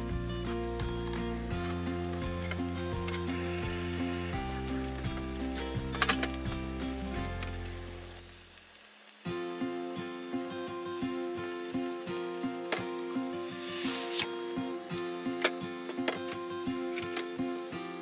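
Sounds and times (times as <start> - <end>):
background music: 0.0 - 8.4, 9.3 - 18.0
food sizzling in frying pan: 0.0 - 18.0.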